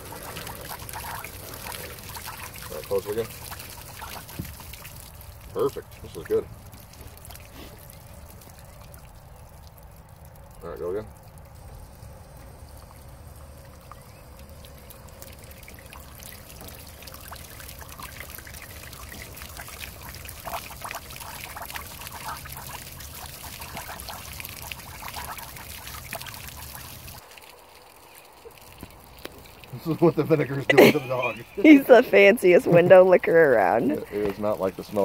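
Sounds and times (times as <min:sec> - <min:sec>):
water gushing and splashing: 0:00.0 - 0:35.0.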